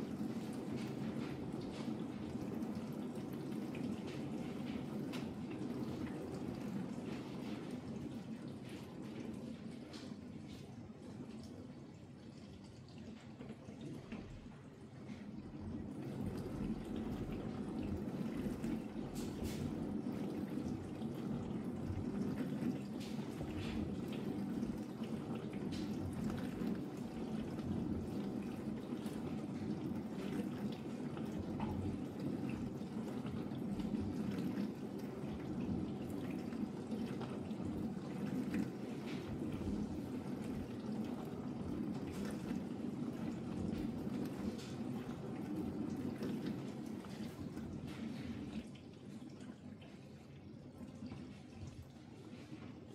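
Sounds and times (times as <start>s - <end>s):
dishwasher water splashing: 0.0s - 52.9s
faint drips: 0.0s - 52.9s.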